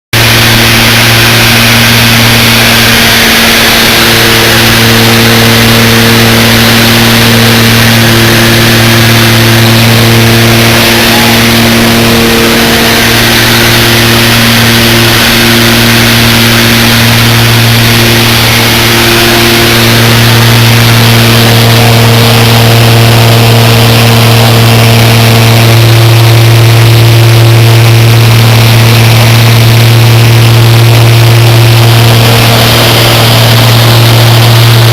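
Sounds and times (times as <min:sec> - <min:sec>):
loud engine drone: 0:00.1 - 0:34.9.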